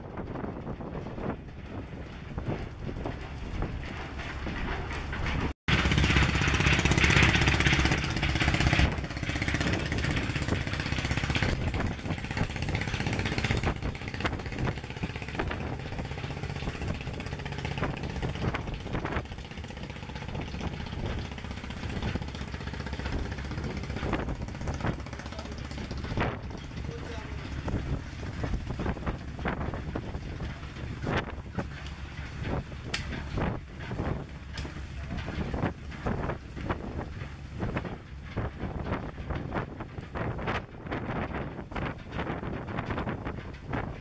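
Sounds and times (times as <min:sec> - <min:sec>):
boat diesel engine running: 0:00.0 - 0:44.0
wind on microphone: 0:00.0 - 0:44.0.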